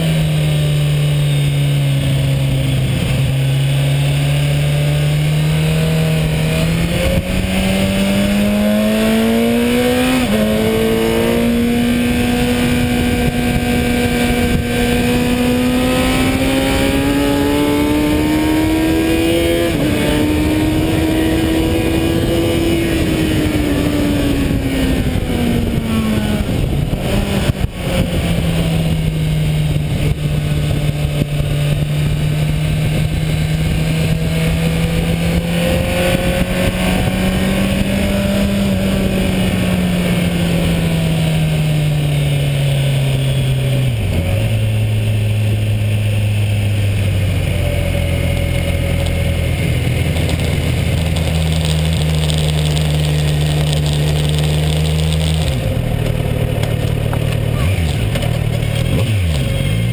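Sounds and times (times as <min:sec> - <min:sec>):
motorcycle engine under load: 0:00.0 - 0:59.9
wind rush: 0:00.0 - 0:59.9.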